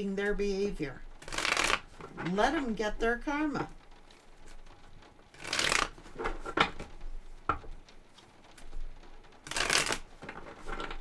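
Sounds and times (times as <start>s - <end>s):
cards being shuffled: 1.2s - 11.0s.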